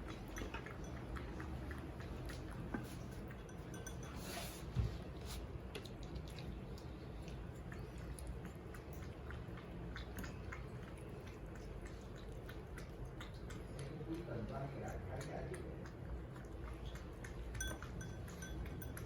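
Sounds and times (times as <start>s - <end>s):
cats chewing food: 0.0s - 19.0s.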